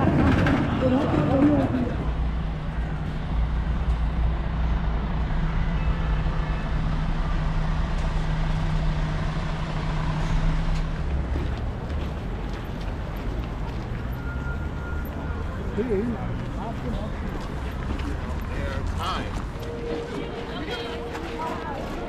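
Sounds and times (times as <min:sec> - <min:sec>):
large engine humming: 0:00.0 - 0:22.0
street noise: 0:00.0 - 0:22.0.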